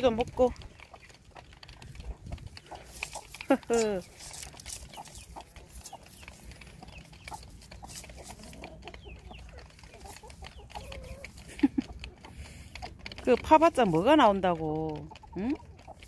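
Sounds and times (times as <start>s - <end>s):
hen clucking: 0.0s - 16.0s
hen scratching dry ground: 0.0s - 16.0s.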